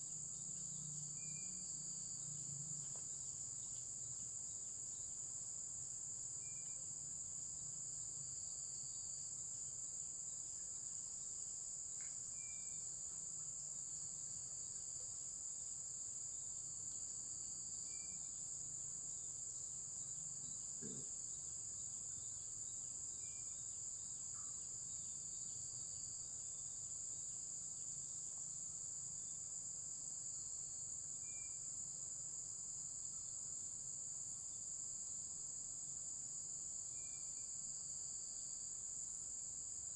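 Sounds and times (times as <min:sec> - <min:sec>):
crickets and insects chirring: 0:00.0 - 0:39.9.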